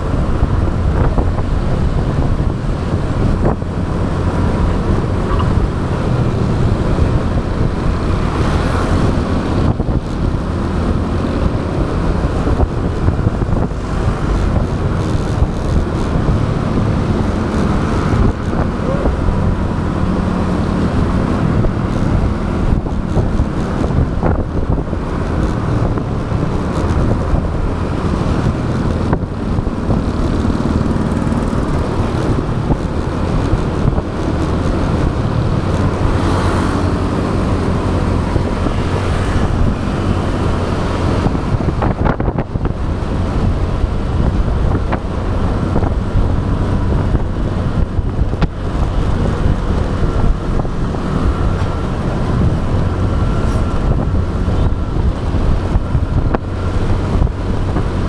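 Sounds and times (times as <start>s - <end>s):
motorbike engine running: 0.0s - 58.0s
surrounding traffic noise: 0.0s - 58.0s
wind on microphone: 0.0s - 58.0s.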